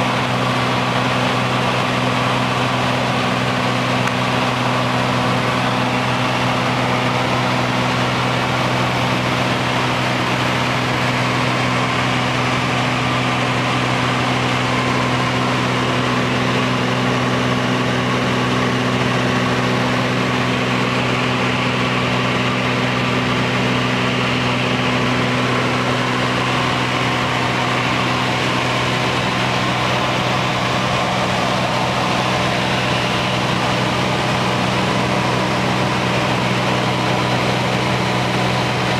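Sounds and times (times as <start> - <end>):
aircraft engine hum in cabin: 0.0 - 38.9.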